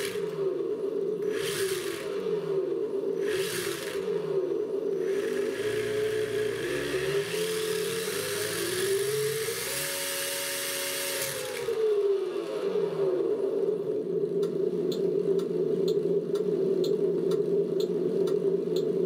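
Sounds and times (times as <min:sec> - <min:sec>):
simulated car engine revving: 0:00.0 - 0:19.0.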